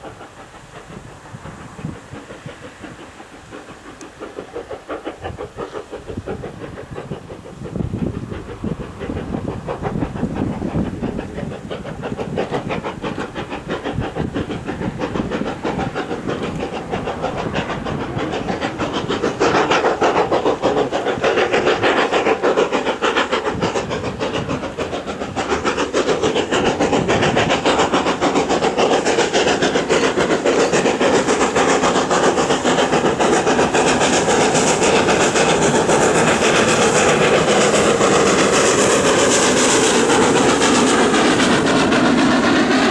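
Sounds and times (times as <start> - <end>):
rail clatter: 0.0 - 42.9
steam locomotive exhaust: 0.0 - 42.9.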